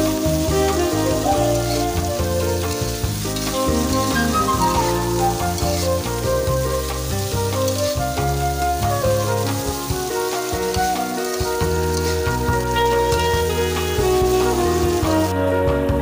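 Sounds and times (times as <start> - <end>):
vegetables sizzling in a wok: 0.0 - 15.3
background music: 0.0 - 16.0
spatula turning food: 0.2 - 15.3.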